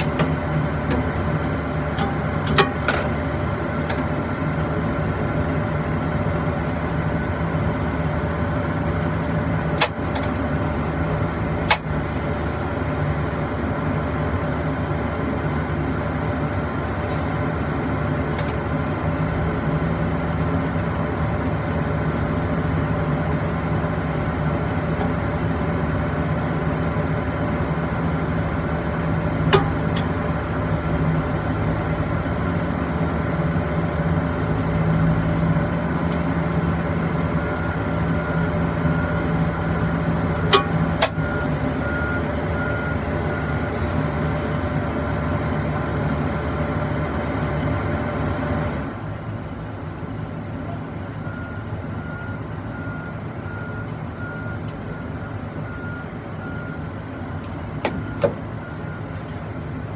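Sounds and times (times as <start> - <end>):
aircraft tug engine humming: 0.0 - 50.0.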